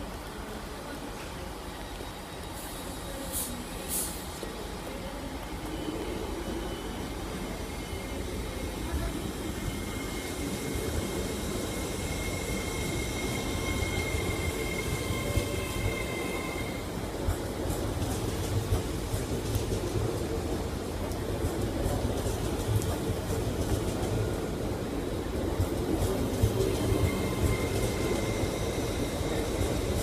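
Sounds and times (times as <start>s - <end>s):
electric train whine and rumble: 0.0s - 30.0s.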